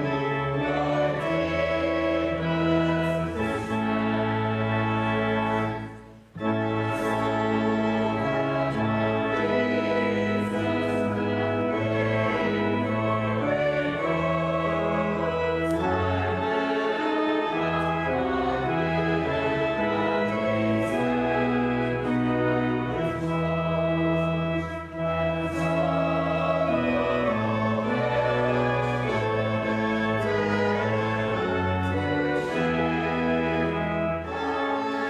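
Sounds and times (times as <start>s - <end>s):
church organ chords: 0.0s - 35.0s.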